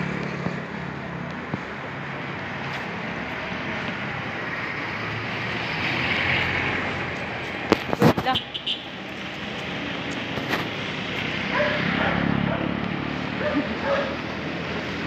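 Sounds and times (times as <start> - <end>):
rushing street noise: 0.0 - 15.0.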